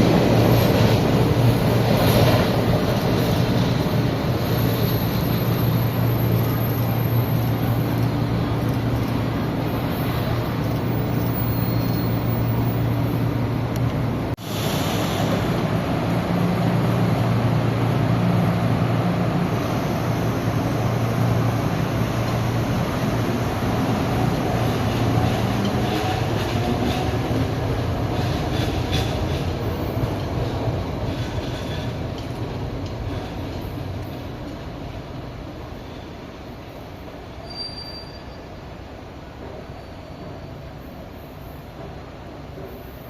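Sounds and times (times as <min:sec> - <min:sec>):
metro train rumbling: 0:00.0 - 0:43.0.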